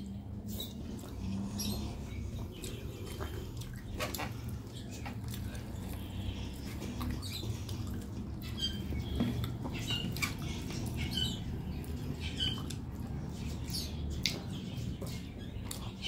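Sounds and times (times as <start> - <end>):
wet chewing and mouth clicks: 0.0 - 16.0.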